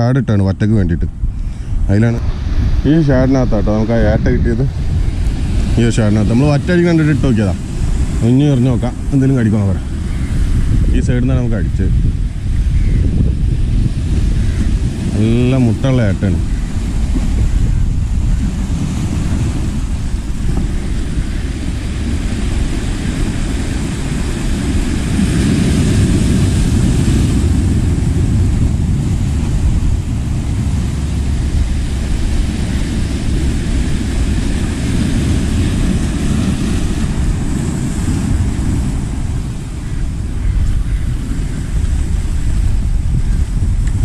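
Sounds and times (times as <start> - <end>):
wind buffeting microphone: 0.0 - 44.0
surf breaking against rocks: 1.8 - 12.3, 13.3 - 44.0.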